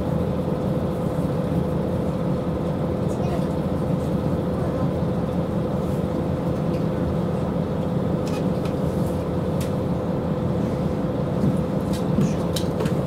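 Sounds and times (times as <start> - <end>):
diesel engine idling rumble: 0.0 - 13.0.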